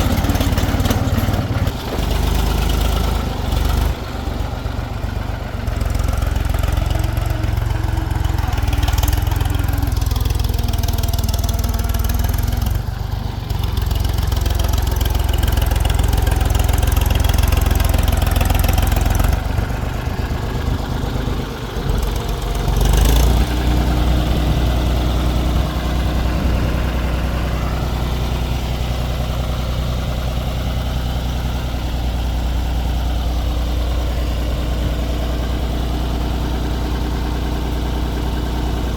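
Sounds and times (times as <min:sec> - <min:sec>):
diesel machinery engines running: 0:00.0 - 0:38.9.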